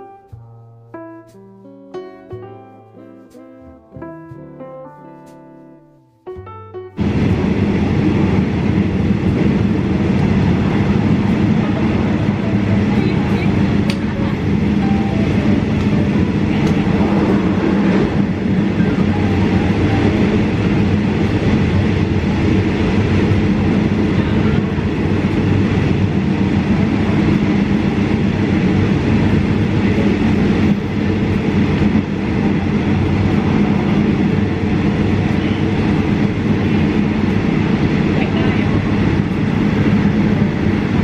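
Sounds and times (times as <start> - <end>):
passenger train rumbling: 6.9 - 41.0.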